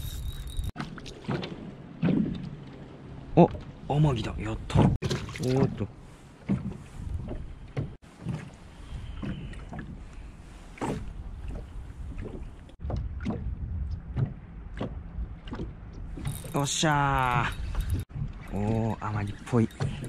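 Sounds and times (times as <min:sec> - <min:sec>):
water lapping against hull: 0:00.7 - 0:20.0.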